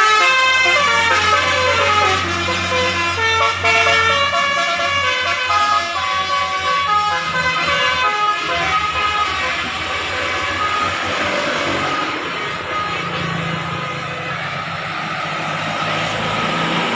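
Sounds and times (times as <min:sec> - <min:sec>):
vehicle horn playing tune: 0:00.0 - 0:14.0
engine humming: 0:00.0 - 0:16.9.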